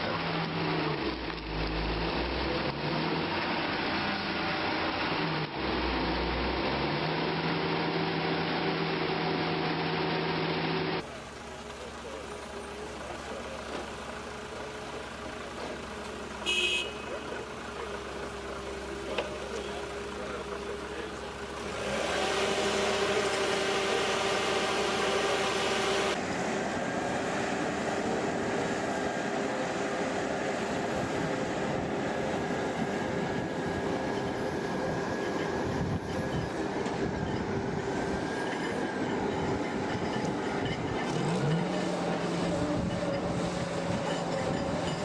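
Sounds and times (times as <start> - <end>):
heavy machinery engines running: 0.0 - 45.0.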